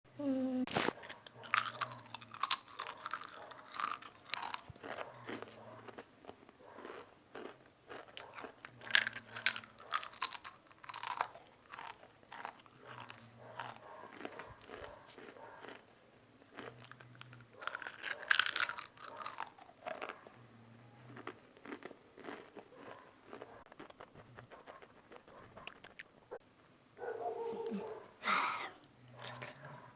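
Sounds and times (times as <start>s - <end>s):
crunching potato crisps: 0.7s - 20.3s, 21.0s - 26.1s.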